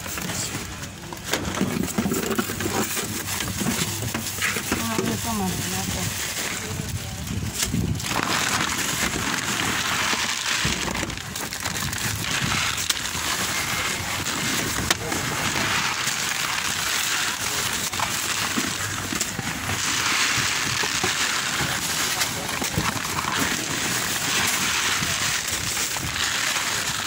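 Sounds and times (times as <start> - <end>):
faint voices: 0.0 - 8.2, 12.4 - 27.0
shopping bags rustling: 0.0 - 27.0.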